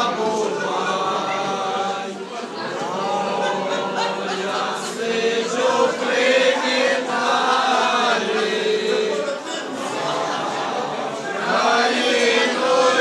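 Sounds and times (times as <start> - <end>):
mixed choir singing: 0.0 - 13.0.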